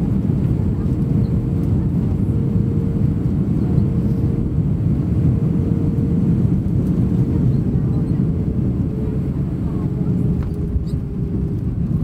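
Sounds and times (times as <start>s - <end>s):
aircraft engine and airflow rumble: 0.0s - 12.0s.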